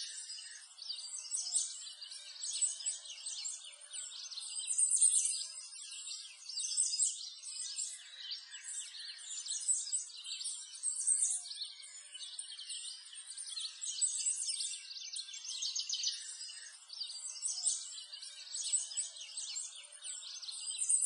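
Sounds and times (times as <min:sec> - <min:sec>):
small birds chirping and twittering: 0:00.0 - 0:21.0.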